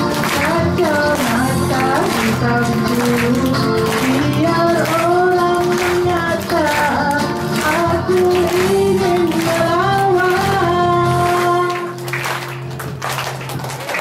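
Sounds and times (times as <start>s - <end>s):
backing music track: 0.0s - 14.0s
women singing: 0.3s - 12.0s.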